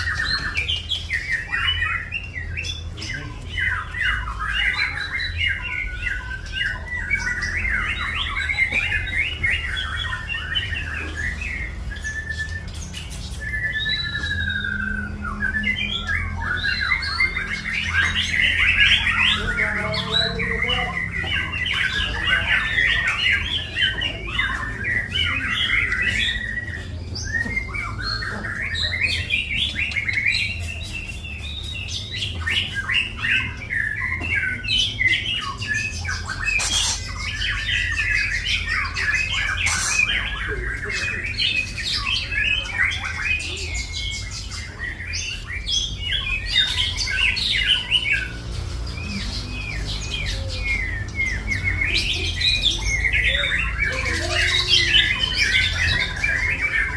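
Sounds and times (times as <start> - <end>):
bird singing: 0.0 - 56.9.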